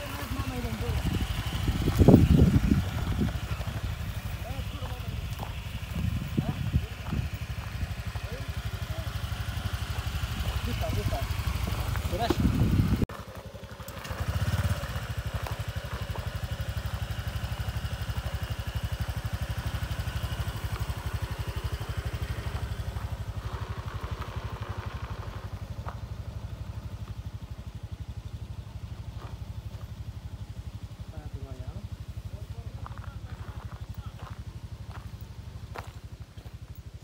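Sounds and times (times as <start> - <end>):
motor scooter engine running: 0.0 - 37.0.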